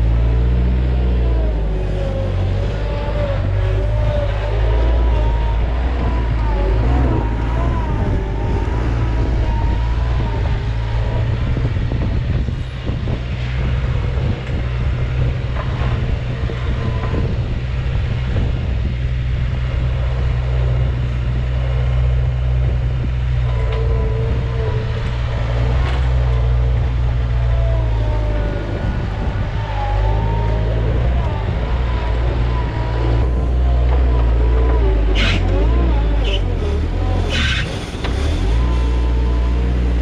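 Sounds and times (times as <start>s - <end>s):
skid-steer engine running: 0.0s - 40.0s.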